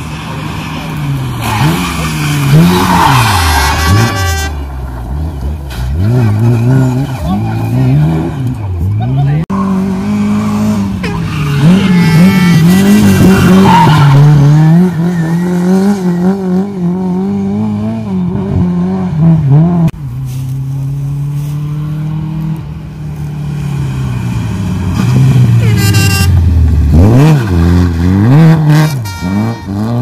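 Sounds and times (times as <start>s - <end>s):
car approaching at speed: 0.0s - 3.9s, 4.5s - 30.0s
rally car engine revving: 0.0s - 20.0s, 20.6s - 30.0s.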